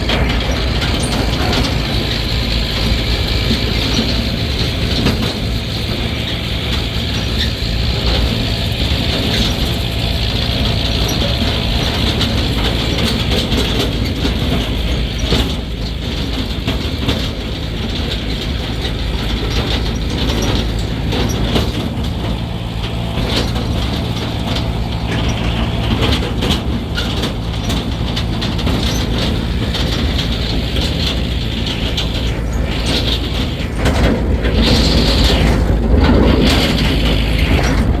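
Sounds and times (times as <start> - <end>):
irregular clicks and rattles: 0.0 - 38.0
motor running steadily: 0.0 - 38.0.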